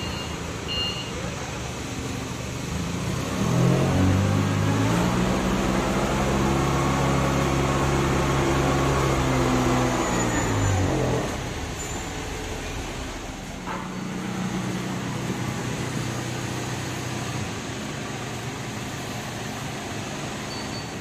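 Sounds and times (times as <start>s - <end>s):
forklift engine revving: 1.8s - 21.0s.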